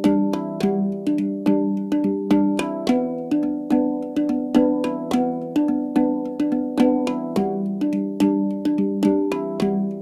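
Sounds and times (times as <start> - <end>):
instrumental music with ringing notes: 0.0 - 10.0.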